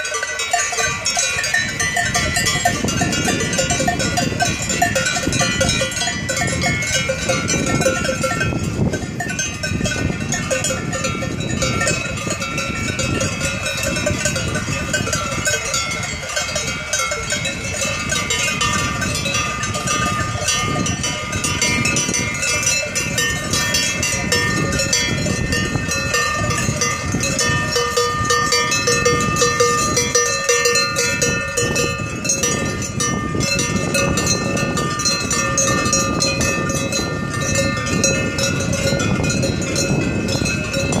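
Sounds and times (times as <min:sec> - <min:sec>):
cowbells clanging: 0:00.0 - 0:41.0.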